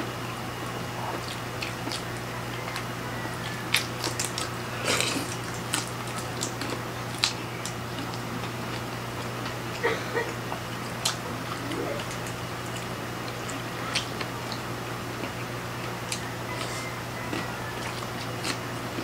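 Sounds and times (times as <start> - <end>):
steady low hum: 0.0 - 19.0
biting and chewing: 0.8 - 19.0.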